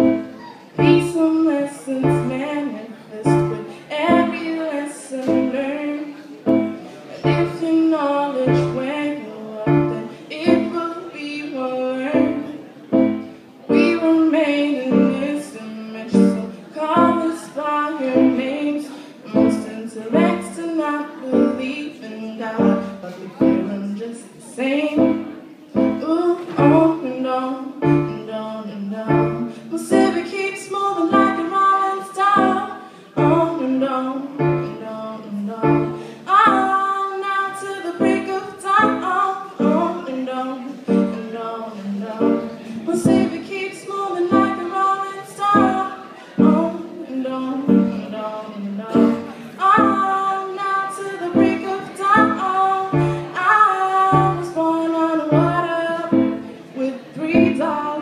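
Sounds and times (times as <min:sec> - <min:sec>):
electronic keyboard: 0:00.0 - 0:05.8, 0:06.4 - 0:11.4, 0:12.0 - 0:23.9, 0:24.9 - 0:41.4, 0:42.1 - 0:58.0
woman singing: 0:00.0 - 0:58.0.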